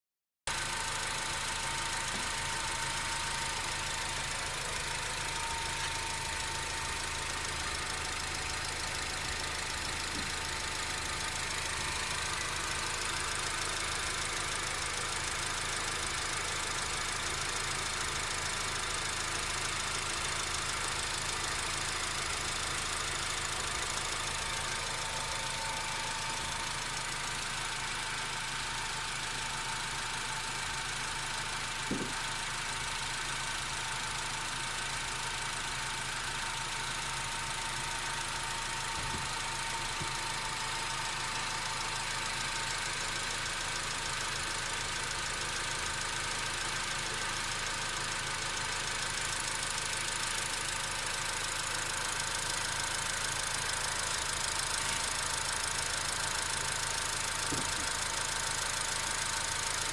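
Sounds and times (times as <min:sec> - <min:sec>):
car engine idling: 0:00.5 - 0:59.9.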